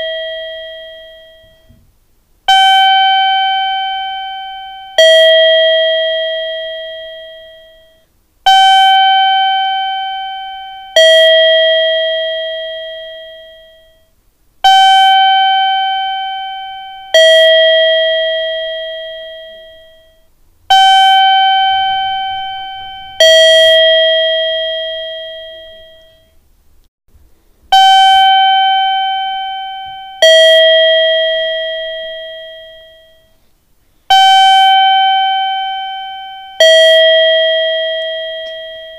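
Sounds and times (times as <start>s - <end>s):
two-note electronic chime: 0.0s - 1.8s, 2.5s - 14.1s, 14.7s - 26.4s, 27.8s - 33.5s, 34.1s - 38.9s.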